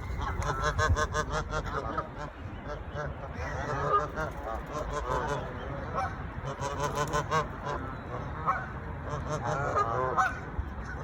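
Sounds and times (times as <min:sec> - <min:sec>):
low wind rumble: 0:00.0 - 0:11.0
waterfowl honking: 0:00.0 - 0:11.0.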